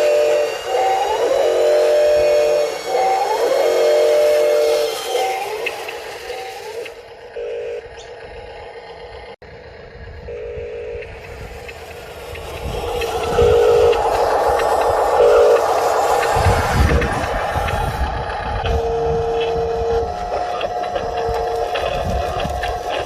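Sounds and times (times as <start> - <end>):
electronic warning beeps: 0.0 - 8.2, 10.2 - 23.0
model machine motor noise: 0.0 - 9.4, 10.2 - 23.0.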